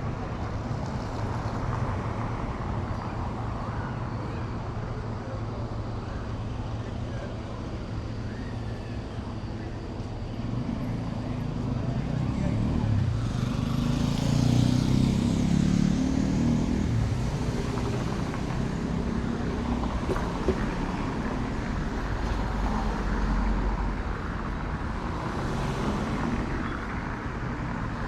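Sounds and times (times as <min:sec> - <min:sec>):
traffic hum: 0:00.0 - 0:28.0
vehicle engine running close by: 0:00.0 - 0:28.0.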